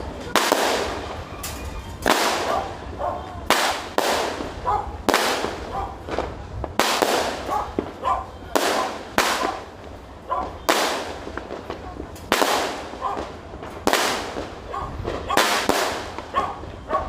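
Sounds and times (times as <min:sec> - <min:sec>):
fireworks bangs echoing: 0:00.0 - 0:17.0.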